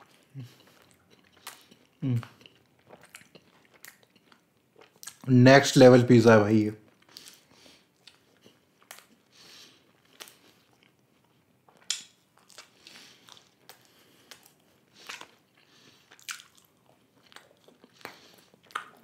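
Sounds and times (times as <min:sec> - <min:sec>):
man chewing food: 0:00.0 - 0:05.3, 0:06.8 - 0:19.0.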